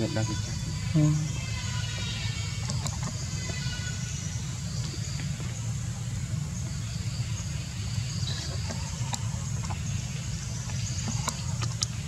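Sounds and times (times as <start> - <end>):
faint high insect drone: 0.0 - 12.0.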